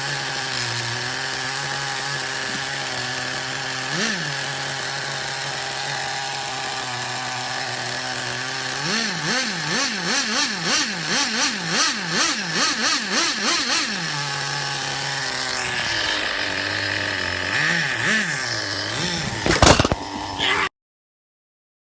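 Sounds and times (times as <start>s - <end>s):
nitro engine revving: 0.0s - 20.7s.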